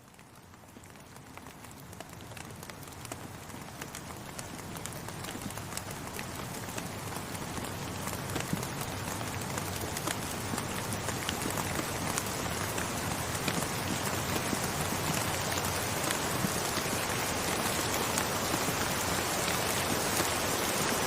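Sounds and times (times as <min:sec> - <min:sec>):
rain drops pattering: 0:00.0 - 0:21.0.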